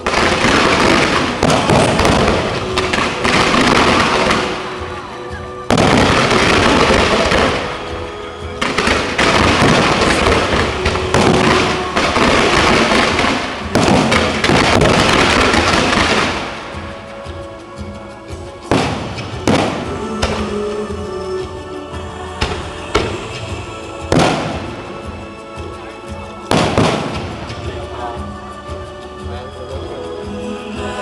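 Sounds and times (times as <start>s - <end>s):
fireworks crackling bangs: 0.0s - 29.9s.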